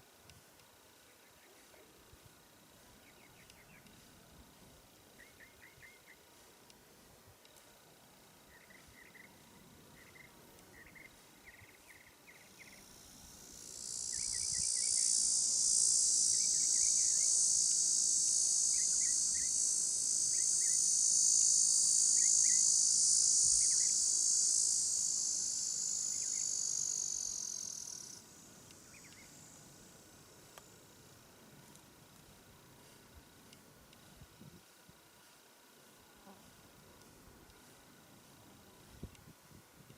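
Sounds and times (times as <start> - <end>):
high hissing insect buzz: 0.0 - 39.9.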